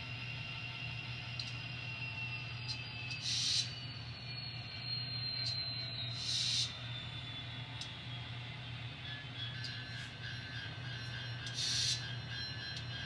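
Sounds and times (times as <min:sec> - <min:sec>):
model locomotive hum and whine: 0:00.0 - 0:13.0.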